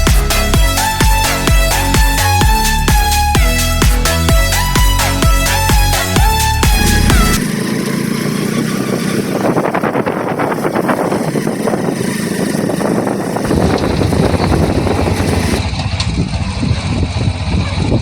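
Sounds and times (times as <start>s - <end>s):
road and air noise: 0.0s - 16.6s
vehicle engine running: 0.0s - 18.0s.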